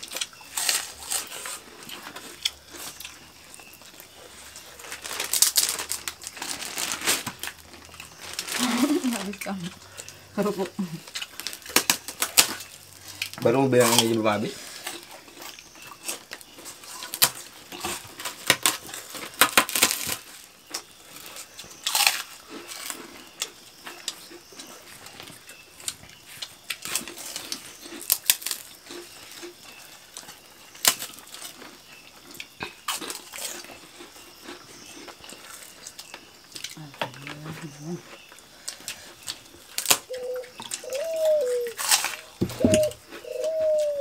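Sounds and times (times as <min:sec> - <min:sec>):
leaf crinkling: 0:00.0 - 0:23.5, 0:25.0 - 0:44.0.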